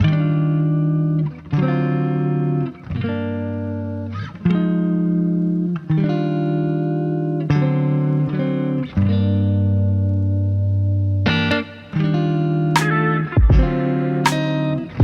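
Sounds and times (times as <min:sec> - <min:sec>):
sustained guitar chords: 0:00.0 - 0:15.0.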